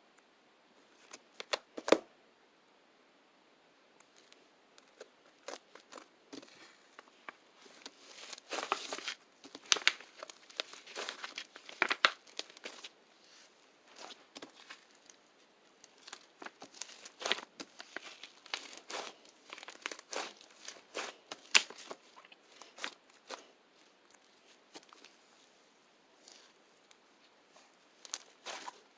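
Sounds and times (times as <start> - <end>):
crinkling and crackling by hand: 0.9 - 2.0, 4.0 - 28.9.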